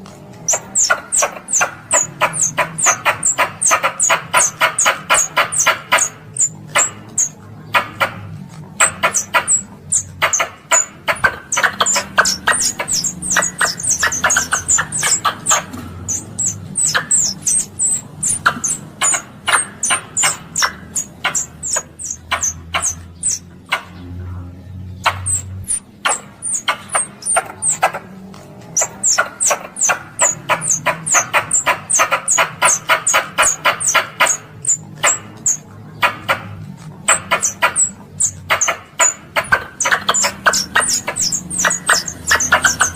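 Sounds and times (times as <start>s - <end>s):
squirrel chipping calls: 0.0s - 42.9s.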